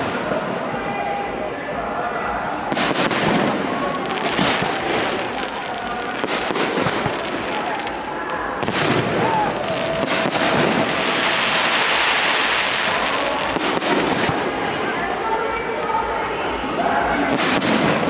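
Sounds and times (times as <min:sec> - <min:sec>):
fireworks bangs and crackling: 0:02.2 - 0:18.0.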